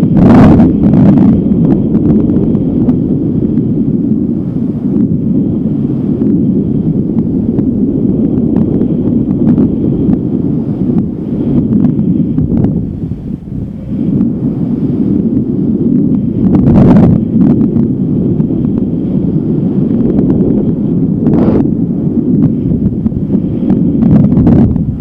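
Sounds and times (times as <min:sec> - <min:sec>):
strong wind buffeting microphone: 0:00.0 - 0:25.0.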